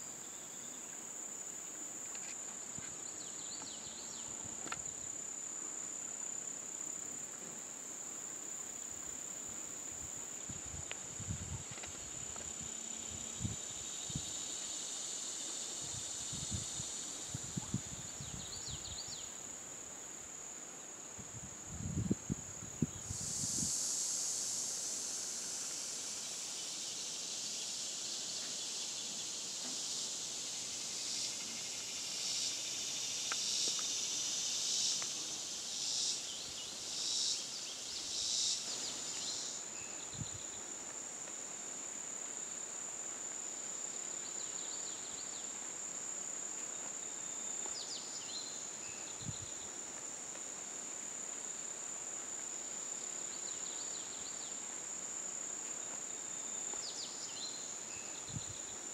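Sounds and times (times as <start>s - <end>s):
insect high-pitched trill: 0.0s - 19.9s, 20.8s - 50.1s, 51.1s - 58.9s
insect chirps: 0.0s - 58.9s
insects buzzing: 0.0s - 58.9s.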